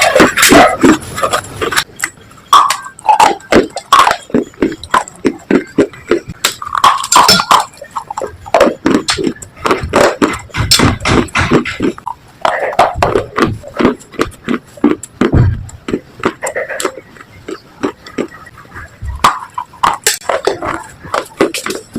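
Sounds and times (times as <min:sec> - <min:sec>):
slate being chewed: 0:00.0 - 0:21.9.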